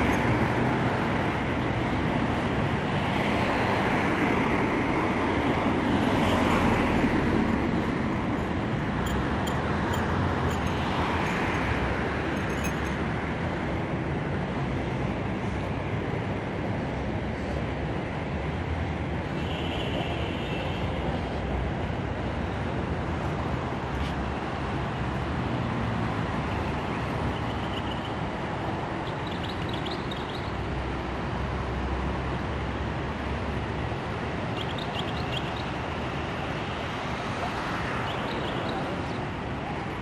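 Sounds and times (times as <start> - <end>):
rumbling street traffic: 0.0 - 40.0.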